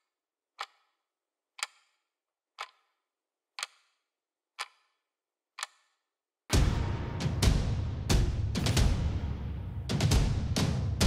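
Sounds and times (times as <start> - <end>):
clock ticking: 0.0 - 9.0.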